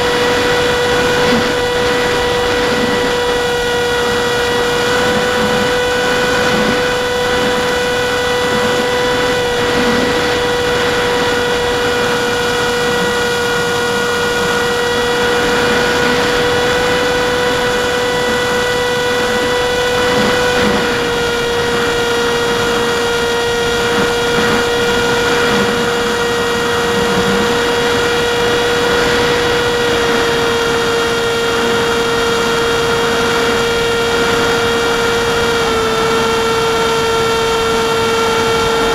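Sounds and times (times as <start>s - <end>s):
electric motor and propeller whine: 0.0s - 38.9s
wind noise: 0.0s - 38.9s.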